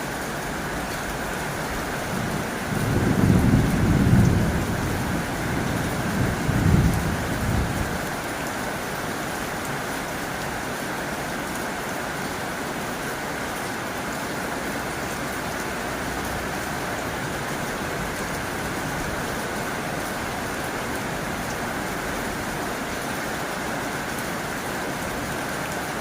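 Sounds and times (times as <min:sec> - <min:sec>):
heavy rain on a tin roof: 0:00.0 - 0:26.0.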